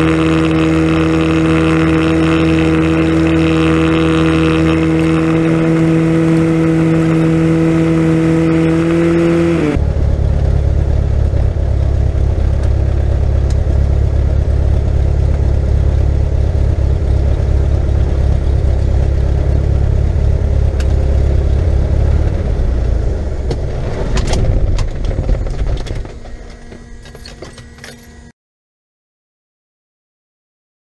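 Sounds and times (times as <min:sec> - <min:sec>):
plane engine and propeller droning: 0:00.0 - 0:28.3.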